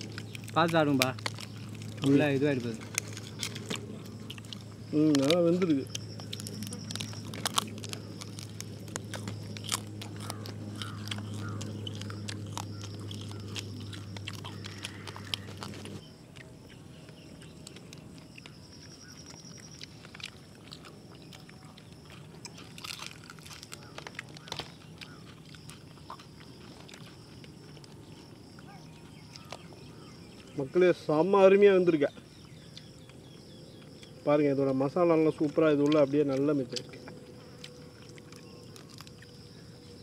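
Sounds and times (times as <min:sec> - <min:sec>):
chewing crunchy food: 0:00.0 - 0:40.0
steady low hum: 0:00.0 - 0:40.0.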